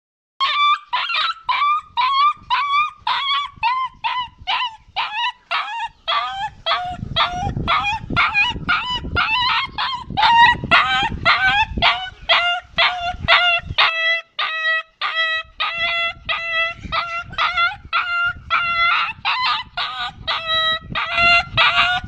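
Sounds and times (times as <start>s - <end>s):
dog whining yelps: 0.4s - 22.0s.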